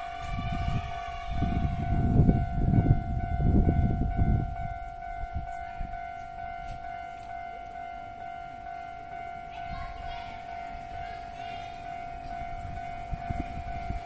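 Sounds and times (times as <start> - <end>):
level crossing warning bell: 0.0 - 14.0
train wheels rumbling: 0.0 - 14.0.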